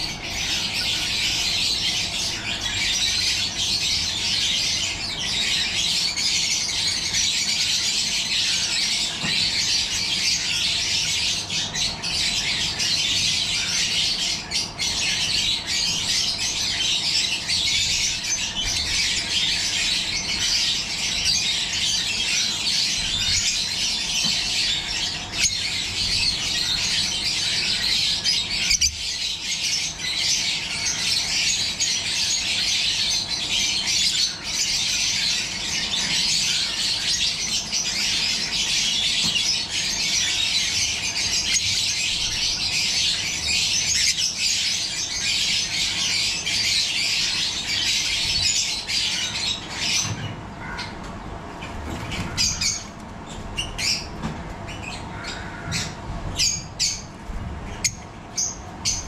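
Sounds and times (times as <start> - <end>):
birds chattering and squawking: 0.0 - 59.0.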